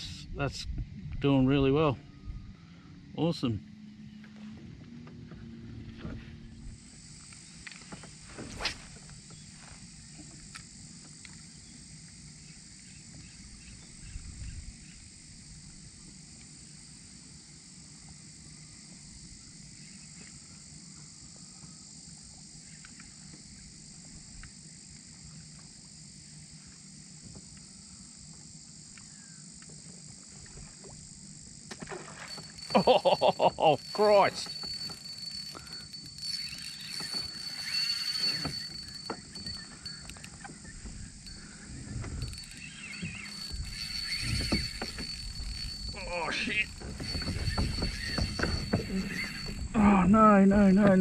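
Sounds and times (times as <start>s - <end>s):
high-pitched insect drone: 6.6s - 51.0s.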